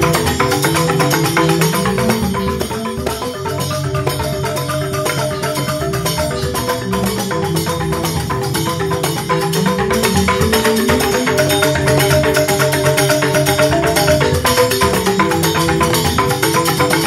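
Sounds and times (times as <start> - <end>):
bamboo xylophone ensemble: 0.0 - 17.0.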